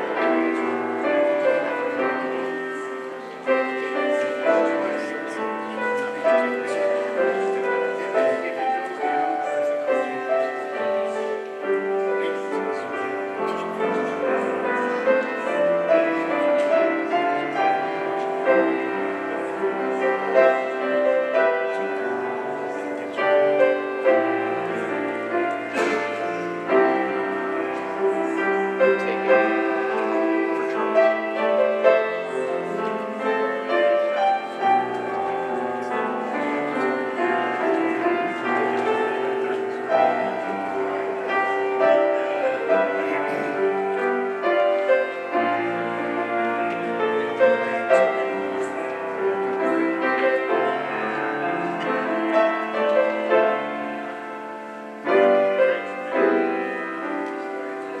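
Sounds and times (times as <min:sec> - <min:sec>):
slow grand piano piece: 0:00.0 - 0:58.0.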